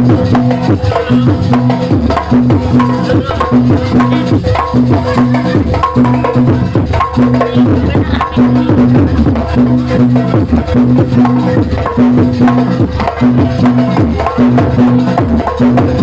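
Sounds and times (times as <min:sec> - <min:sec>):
drums and clacking percussion: 0:00.0 - 0:16.0
held pitched notes: 0:00.9 - 0:15.1.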